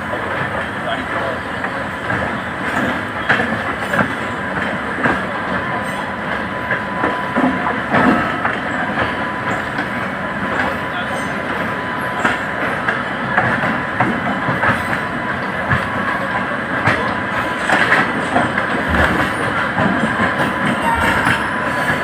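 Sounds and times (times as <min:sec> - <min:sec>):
clatter over rail joints: 0:00.0 - 0:22.0
train wheels rumbling on rails: 0:00.0 - 0:22.0.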